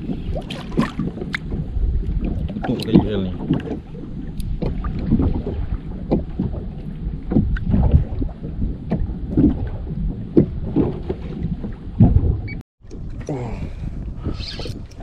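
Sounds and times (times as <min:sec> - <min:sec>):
waves slapping against hull: 0:00.0 - 0:15.0
wind buffeting microphone: 0:00.0 - 0:15.0.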